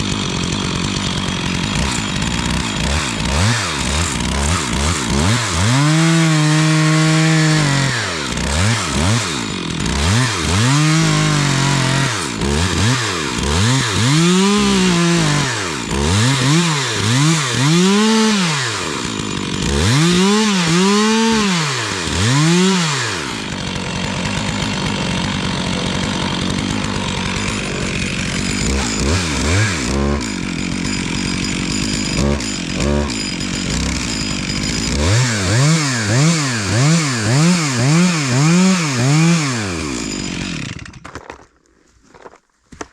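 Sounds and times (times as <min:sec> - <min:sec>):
chainsaw revving: 0:00.0 - 0:41.0.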